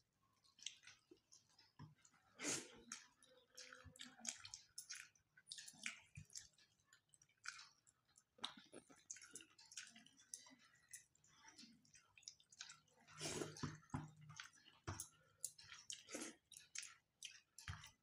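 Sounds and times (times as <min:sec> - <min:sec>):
faint chewing and mouth smacks: 0:00.2 - 0:18.0.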